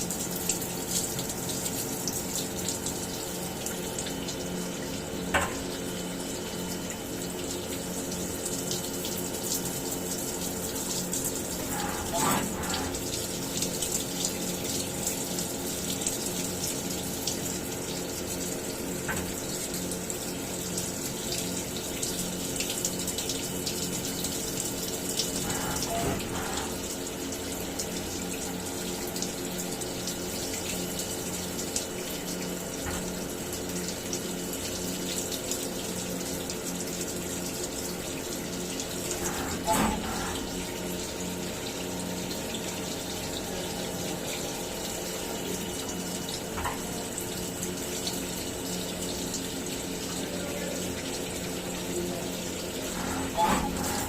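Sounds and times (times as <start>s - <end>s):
milling machine humming: 0.0s - 36.9s, 37.7s - 54.0s
coolant hissing like running water: 0.0s - 54.0s.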